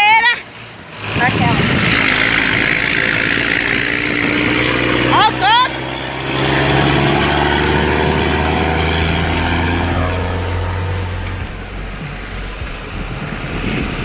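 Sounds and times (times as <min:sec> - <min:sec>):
large vehicle passing: 0:00.0 - 0:14.0.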